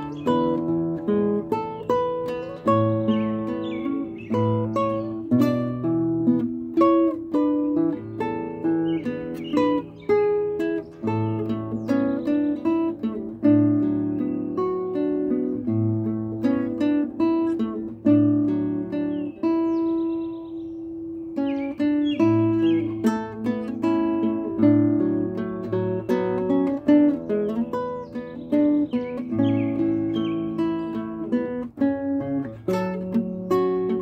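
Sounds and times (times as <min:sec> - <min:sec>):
birds trilling: 0:00.0 - 0:34.0
classical guitar fingerstyle: 0:00.0 - 0:34.0.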